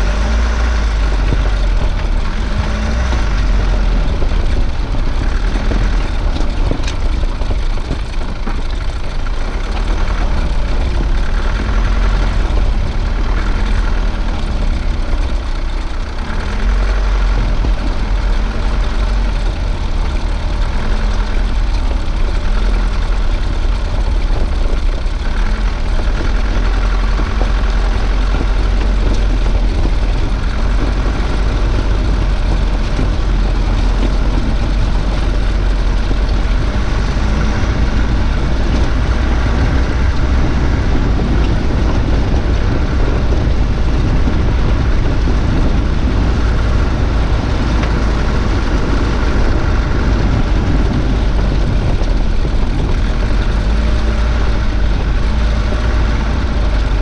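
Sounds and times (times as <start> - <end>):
tyres on gravel: 0.0 - 57.0
vehicle engine rumbling: 0.0 - 57.0.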